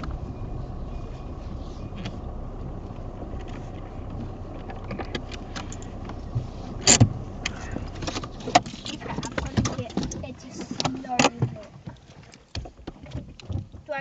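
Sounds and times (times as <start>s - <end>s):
car rumble: 0.0s - 14.0s.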